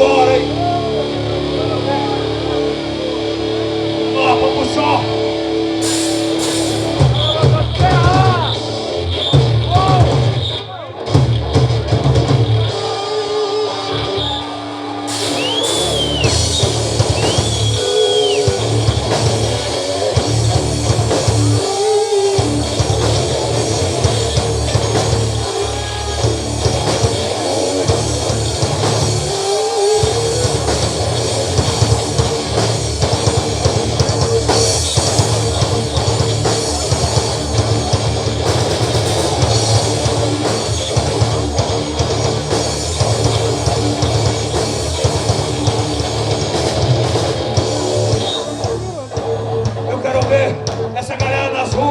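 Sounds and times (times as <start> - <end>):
high bending guitar notes: 0.0 - 13.0, 13.6 - 50.7
live rock band playing: 0.0 - 51.9.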